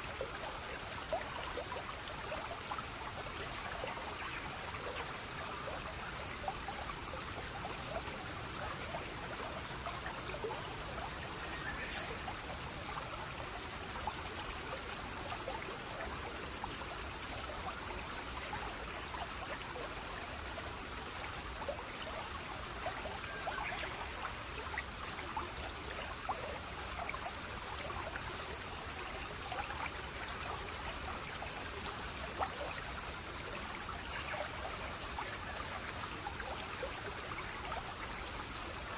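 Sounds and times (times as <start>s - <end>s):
stream water trickling and splashing: 0.0s - 38.9s.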